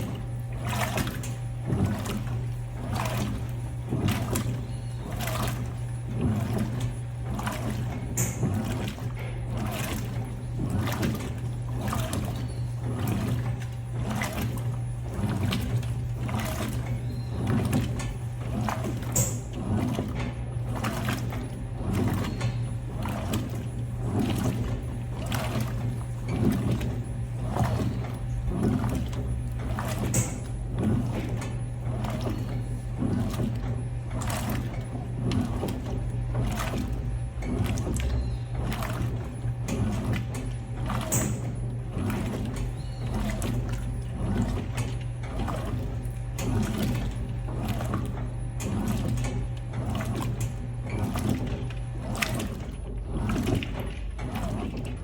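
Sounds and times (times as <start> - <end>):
washing machine motor hum: 0.0 - 55.0
washing machine swishing: 0.0 - 55.0
water sloshing: 0.0 - 55.0.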